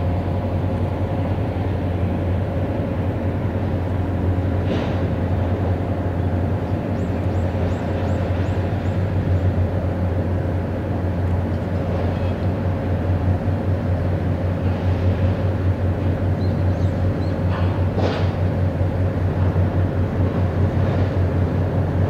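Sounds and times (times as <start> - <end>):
crane machinery drone: 0.0 - 22.0.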